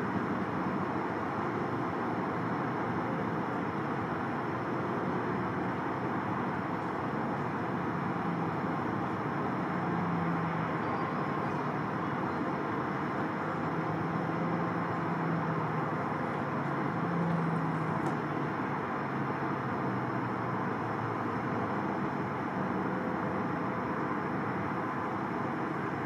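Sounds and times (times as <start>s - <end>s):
distant aircraft engine rumble: 0.0s - 26.0s.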